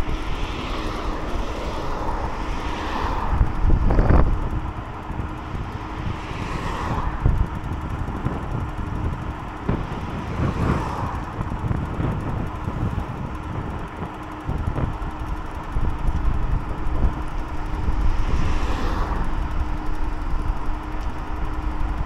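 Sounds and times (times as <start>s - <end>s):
electric scooter motor hum: 0.0s - 22.0s
wind buffeting microphone: 0.0s - 22.0s.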